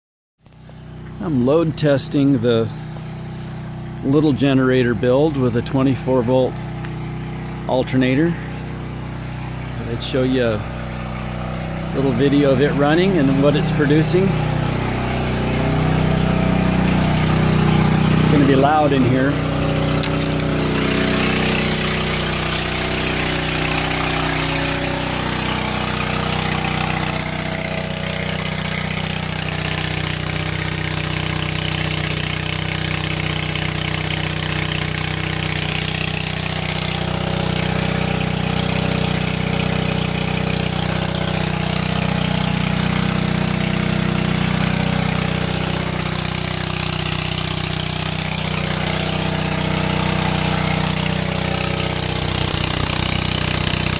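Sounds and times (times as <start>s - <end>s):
small engine running steadily: 0.4s - 53.9s.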